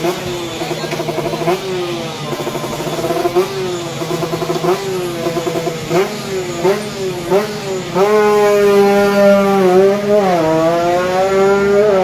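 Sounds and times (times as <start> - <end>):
engine throttle blips: 0.0 - 12.0
motorcycle engine running: 0.0 - 12.0.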